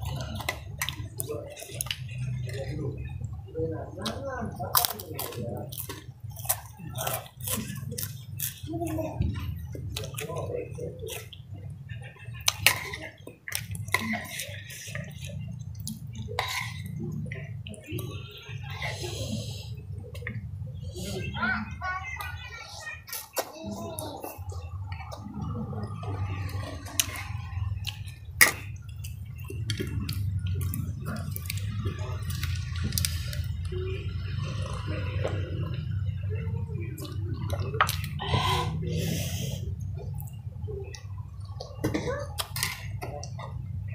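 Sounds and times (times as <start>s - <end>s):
chewing: 0.0s - 21.4s, 23.1s - 43.8s
drinking from a cup: 4.5s - 21.4s, 23.7s - 43.9s.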